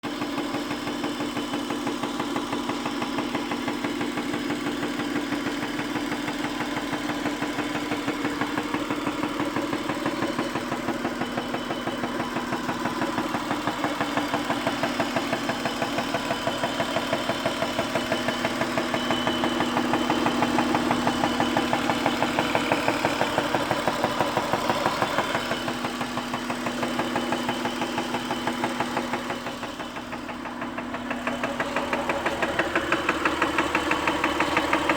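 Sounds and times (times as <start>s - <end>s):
car engine idling with ticking: 0.0s - 34.9s.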